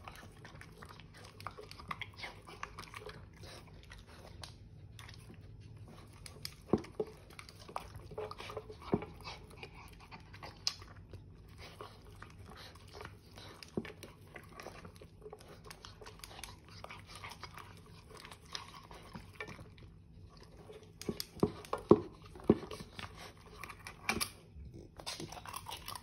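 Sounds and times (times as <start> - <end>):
dog chewing and licking: 0.0 - 26.0.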